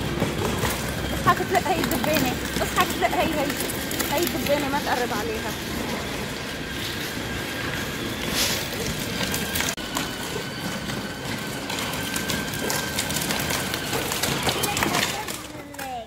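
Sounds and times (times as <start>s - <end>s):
electric motor whine: 0.0s - 15.6s
plastic wheels rumbling on paving: 0.0s - 16.0s.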